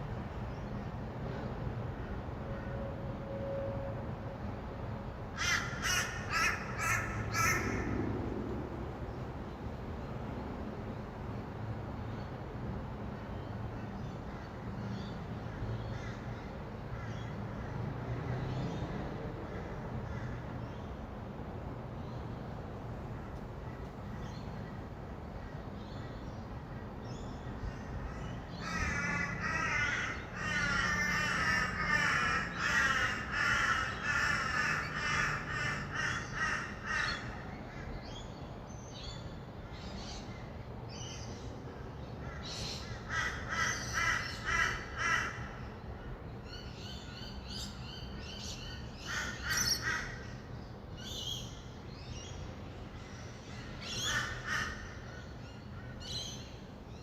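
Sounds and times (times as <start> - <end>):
distant traffic hum: 0.0 - 57.0.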